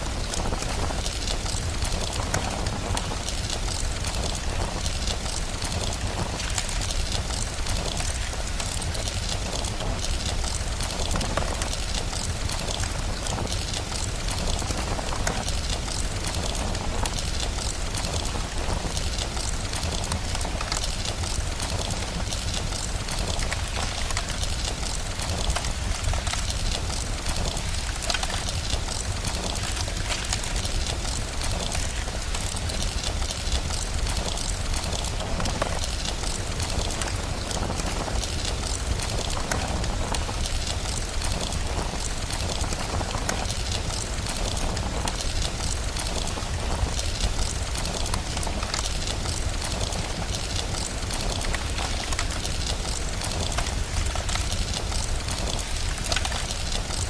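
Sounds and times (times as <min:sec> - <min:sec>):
steady rain: 0:00.0 - 0:57.0
wood fire crackling: 0:00.0 - 0:57.0.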